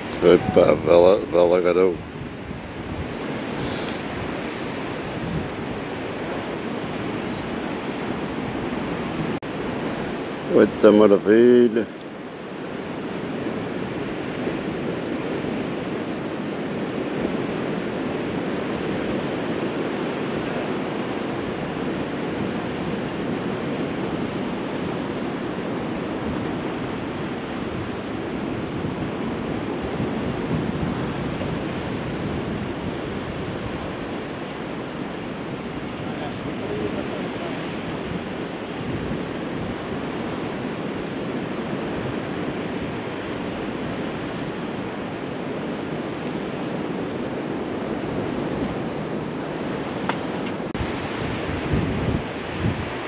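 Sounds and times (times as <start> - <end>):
wind on microphone: 0.0 - 11.0, 12.1 - 53.0
sea surf on rocky shore: 0.0 - 53.0.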